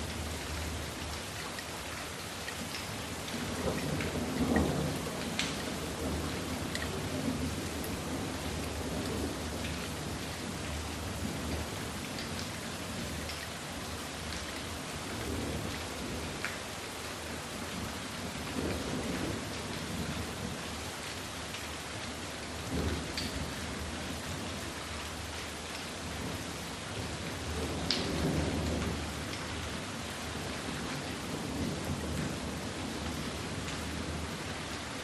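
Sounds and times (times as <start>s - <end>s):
rain falling on lake: 0.0s - 35.0s.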